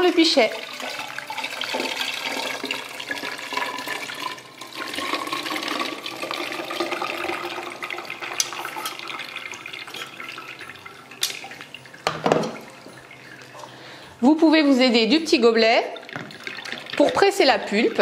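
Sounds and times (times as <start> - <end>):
juice pouring into a pitcher: 0.1 - 14.2, 15.8 - 18.0.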